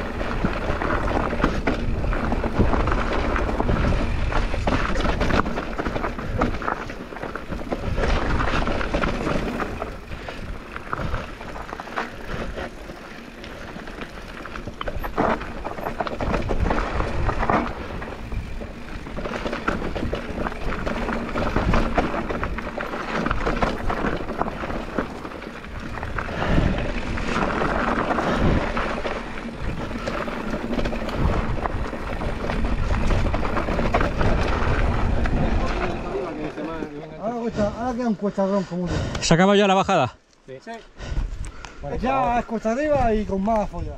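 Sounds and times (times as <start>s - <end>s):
wind rumble on microphone: 0.0s - 36.4s, 41.0s - 43.9s
bike knocks and rattles: 0.0s - 37.1s
bike tyres on dirt trail: 0.0s - 43.9s.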